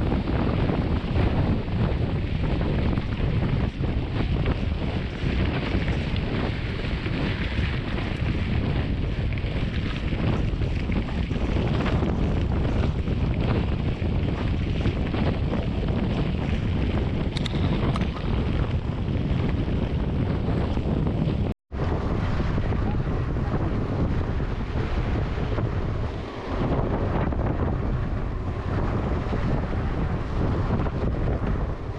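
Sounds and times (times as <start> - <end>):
bicycle tyres rolling over gravel: 0.0 - 31.9
wind buffeting microphone: 0.0 - 31.9.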